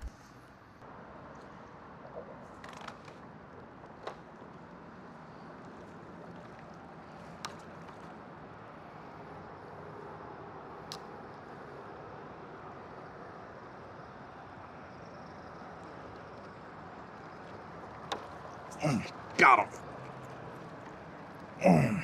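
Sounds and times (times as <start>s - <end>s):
low rushing background noise: 3.2s - 22.0s.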